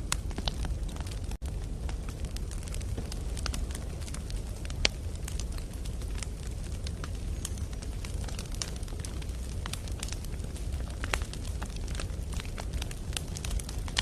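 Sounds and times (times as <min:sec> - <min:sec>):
campfire burning: 0:00.0 - 0:14.0
crackles and pops of logs: 0:00.0 - 0:14.0.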